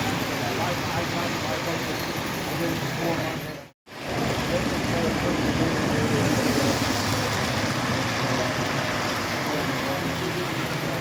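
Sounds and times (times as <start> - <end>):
model trains rumbling on track: 0.0 - 11.0.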